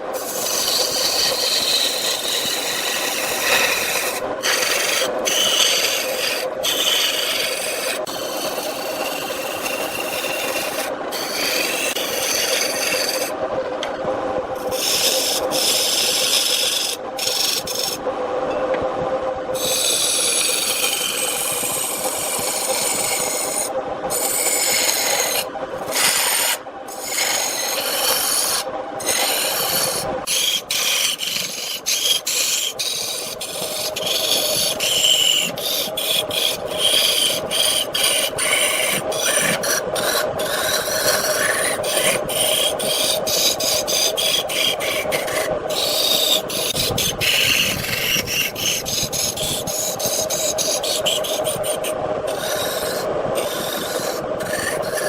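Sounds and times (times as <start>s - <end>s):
lathe tool scraping spinning wood: 0.0s - 18.1s, 19.6s - 55.0s
wood lathe humming: 0.0s - 18.1s, 19.6s - 55.0s.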